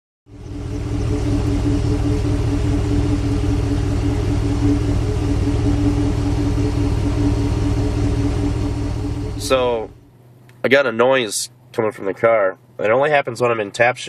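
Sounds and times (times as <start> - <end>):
car engine rumbling: 0.3 - 14.0.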